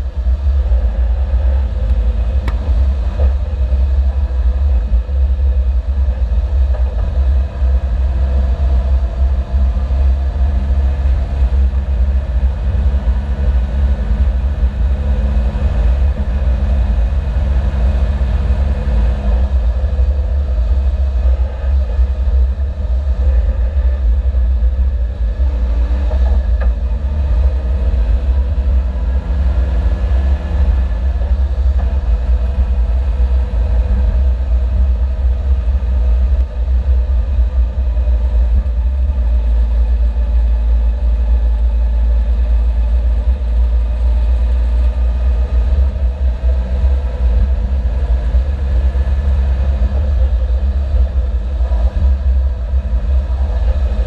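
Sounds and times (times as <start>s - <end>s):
car engine running under load: 0.0s - 54.0s
heavy low rumble: 0.0s - 54.0s.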